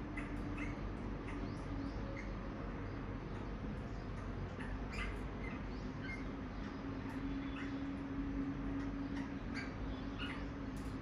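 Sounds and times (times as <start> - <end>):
birds chirping: 0.0 - 11.0
faint low hum: 0.0 - 11.0.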